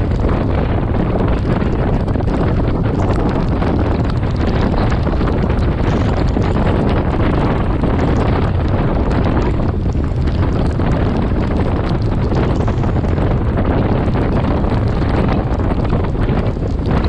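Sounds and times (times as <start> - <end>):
wind rumbling over microphone: 0.0 - 17.0.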